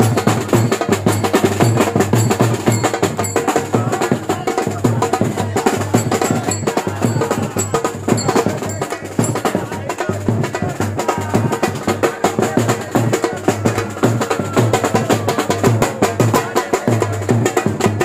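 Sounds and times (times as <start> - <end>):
percussion-heavy music: 0.0 - 18.0.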